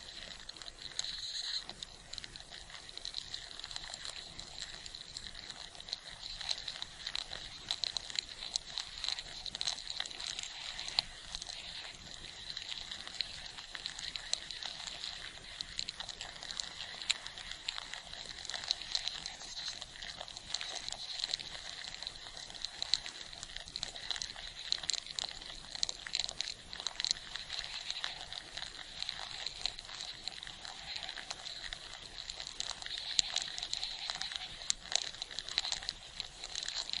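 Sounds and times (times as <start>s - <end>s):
ants swarming crackle: 0.0s - 37.0s.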